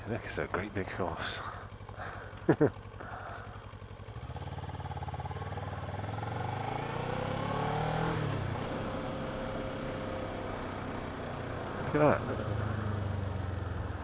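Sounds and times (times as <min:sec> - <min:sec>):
motorcycle engine accelerating: 0:01.5 - 0:14.0.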